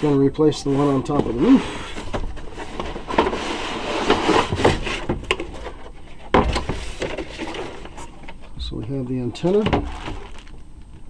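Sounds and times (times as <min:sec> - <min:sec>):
cardboard rustling and scraping: 0:00.0 - 0:08.5, 0:09.2 - 0:10.6.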